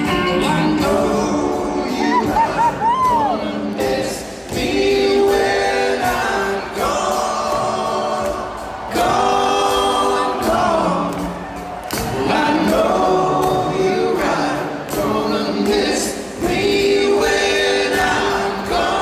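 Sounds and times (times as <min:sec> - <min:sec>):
rock band playing live: 0:00.0 - 0:19.0
voices singing in harmony: 0:00.0 - 0:19.0.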